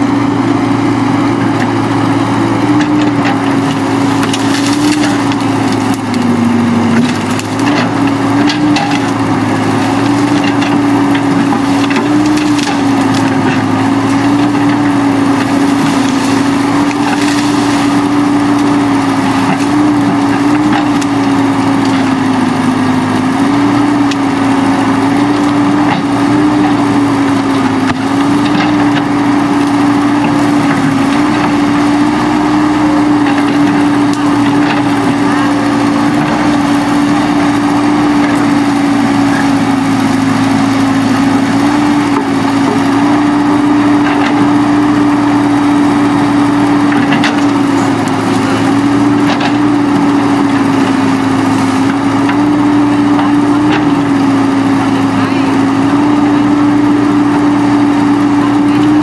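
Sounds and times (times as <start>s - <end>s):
heavy equipment engine running: 0.0s - 59.0s.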